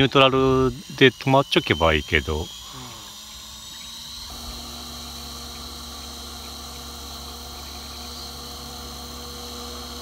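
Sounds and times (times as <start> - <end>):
rc helicopter motor whine: 0.0 - 10.0.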